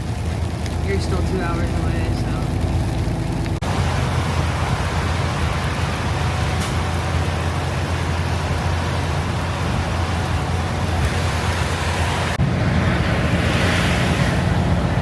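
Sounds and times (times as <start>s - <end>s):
truck engine drone and road noise: 0.0s - 15.0s.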